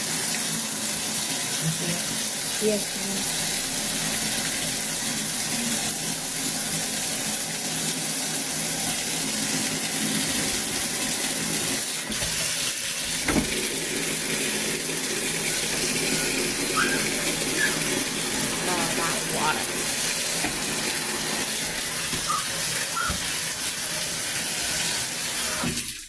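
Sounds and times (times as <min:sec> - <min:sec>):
water pouring into tub: 0:00.0 - 0:26.0.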